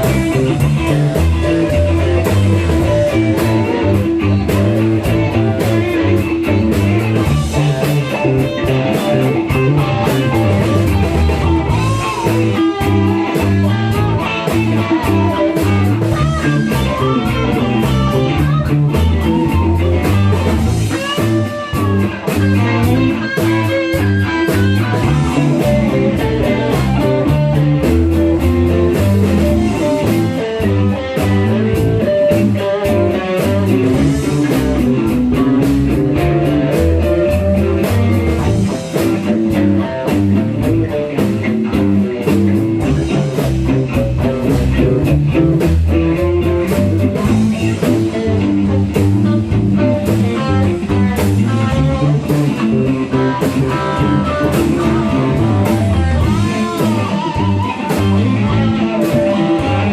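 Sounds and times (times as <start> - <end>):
blues-rock guitar: 0.0 - 59.9
steady drum beat: 0.0 - 59.9.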